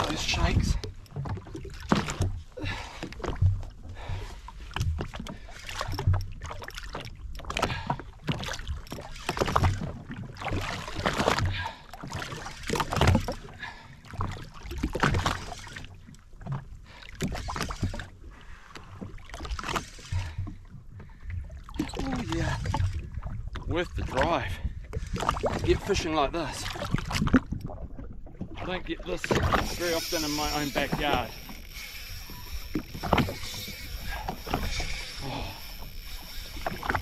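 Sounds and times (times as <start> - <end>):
water slapping against a hull: 0.0 - 37.0.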